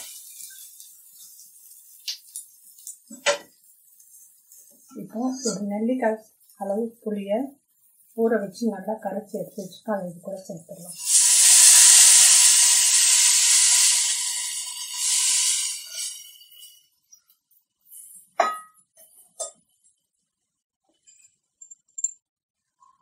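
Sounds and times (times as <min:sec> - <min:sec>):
liquid sizzling in hot oil: 0:00.0 - 0:06.8, 0:07.6 - 0:20.0.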